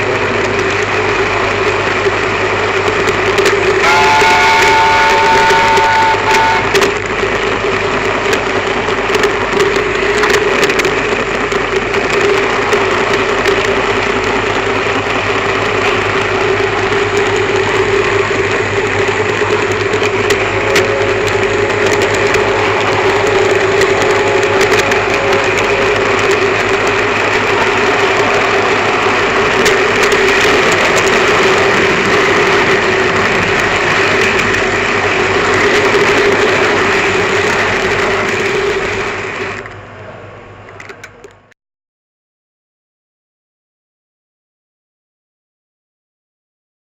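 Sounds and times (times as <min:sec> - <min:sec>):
model train running on track: 0:00.0 - 0:41.5.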